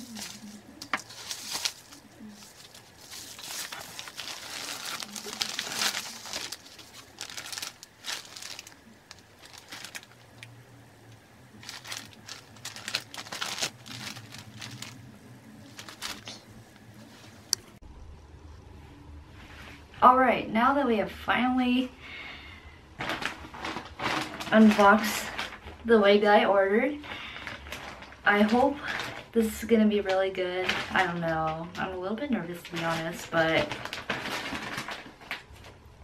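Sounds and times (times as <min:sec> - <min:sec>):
packaging crinkling and rustling: 0:00.0 - 0:17.6, 0:23.0 - 0:26.1, 0:27.0 - 0:32.0, 0:32.6 - 0:35.8.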